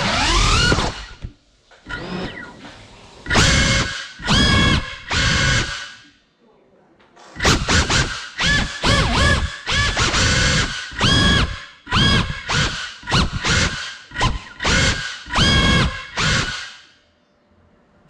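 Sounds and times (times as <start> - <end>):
drone motors whining: 0.0 - 6.2, 7.4 - 17.0.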